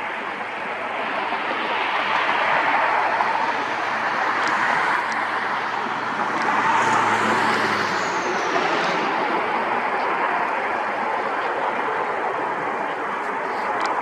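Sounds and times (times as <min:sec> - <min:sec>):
jet engine high whine: 0:00.0 - 0:14.0
jet engines roaring: 0:00.0 - 0:14.0.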